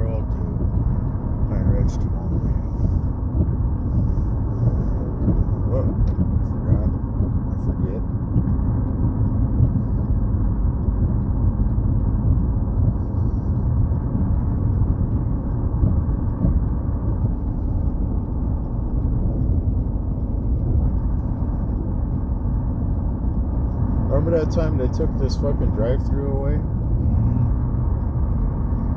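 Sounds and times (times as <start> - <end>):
car road rumble: 0.0 - 28.9.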